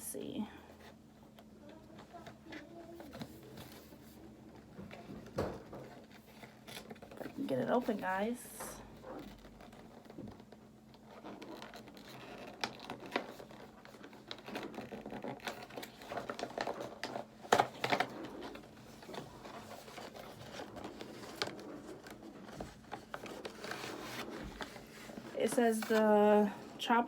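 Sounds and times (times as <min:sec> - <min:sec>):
packaging rustling and scraping: 0:00.6 - 0:27.0.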